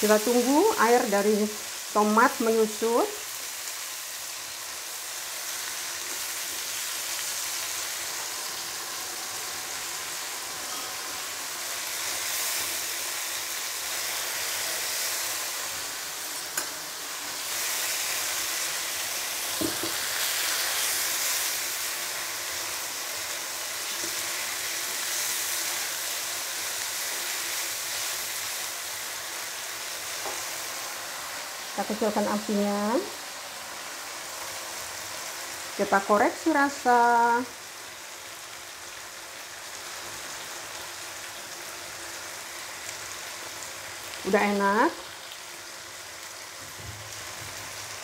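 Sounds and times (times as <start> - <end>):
sauce sizzling in a wok: 0.0 - 48.0.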